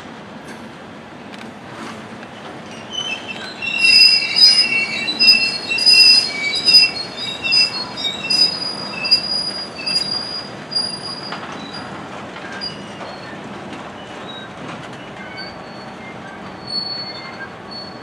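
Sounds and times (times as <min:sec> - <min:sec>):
train rumble: 0:00.0 - 0:18.0
train wheels squealing on rails: 0:01.7 - 0:18.0.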